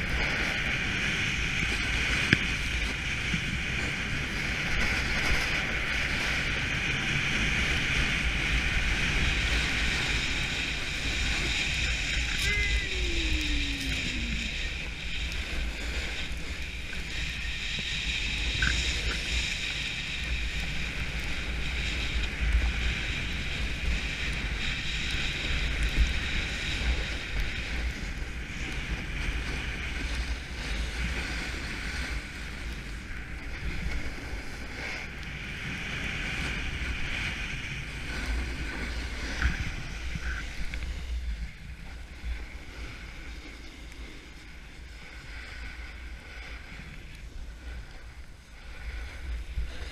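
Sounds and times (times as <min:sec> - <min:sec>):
snowboard scraping over snow: 0:00.0 - 0:49.9
wind buffeting microphone: 0:00.0 - 0:49.9.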